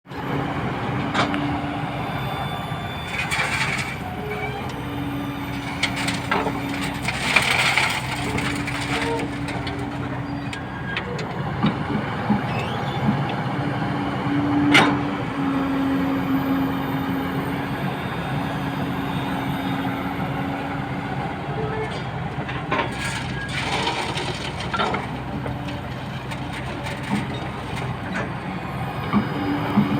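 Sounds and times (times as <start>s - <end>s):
excavator engine drone: 0.1s - 29.9s.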